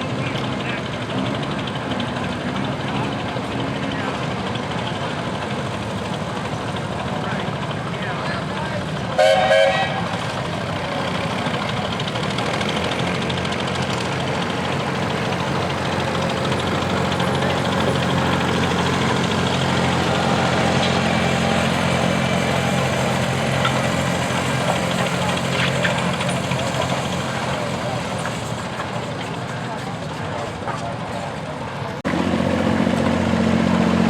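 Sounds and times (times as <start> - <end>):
garden tractor engine running: 0.0 - 34.0.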